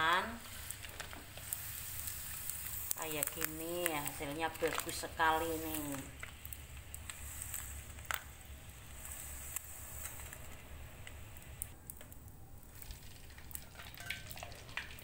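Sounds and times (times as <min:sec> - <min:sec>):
hot oil sizzling in a wok: 0:00.0 - 0:11.8, 0:12.6 - 0:15.0.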